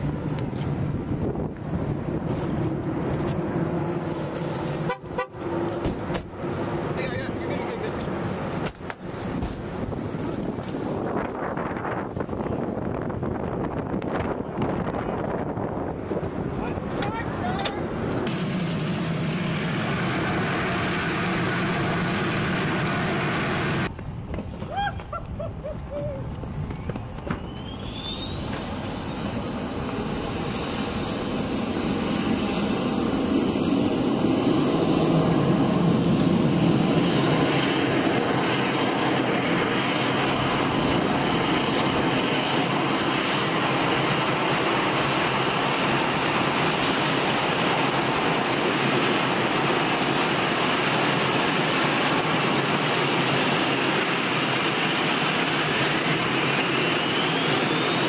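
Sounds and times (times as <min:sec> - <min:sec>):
jet engine spooling up: 0:00.0 - 0:24.2, 0:26.2 - 0:58.0
rising whine: 0:00.0 - 0:58.0.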